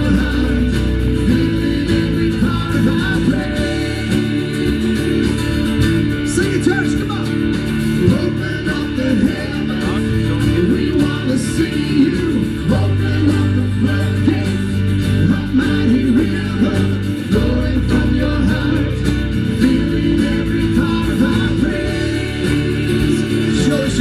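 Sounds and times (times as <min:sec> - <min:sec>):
group singing: 0:00.0 - 0:06.2, 0:07.9 - 0:24.0
worship band playing: 0:00.0 - 0:24.0.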